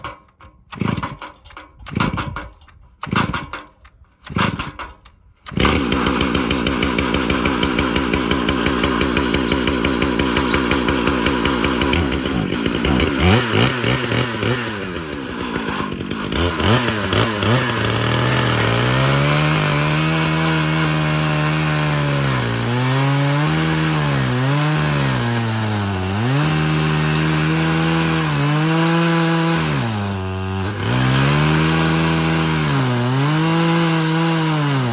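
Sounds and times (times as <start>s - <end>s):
chainsaw starter cord pulls: 0.0s - 34.9s
chainsaw running: 0.7s - 1.3s, 3.0s - 3.5s, 4.2s - 4.8s, 5.4s - 34.9s.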